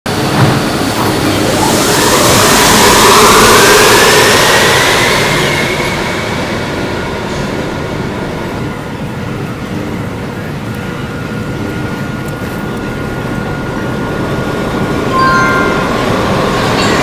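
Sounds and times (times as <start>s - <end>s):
station hum: 0.1s - 17.0s
train motor whine: 0.1s - 17.0s.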